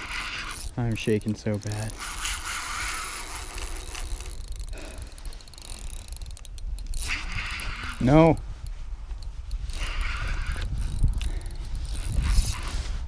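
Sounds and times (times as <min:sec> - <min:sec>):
fishing reel whirring and clicking: 0:00.0 - 0:13.0.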